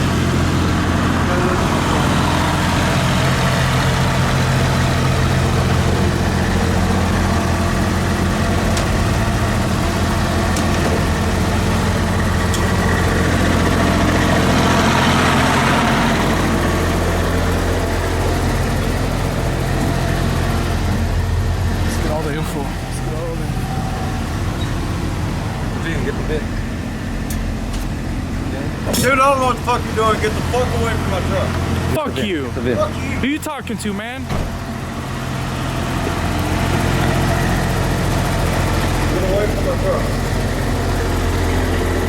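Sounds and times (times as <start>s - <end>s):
vehicle engine idling: 0.0s - 42.0s.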